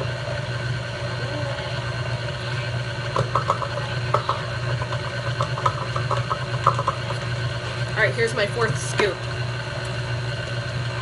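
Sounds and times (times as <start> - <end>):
stand mixer motor humming: 0.0 - 11.0.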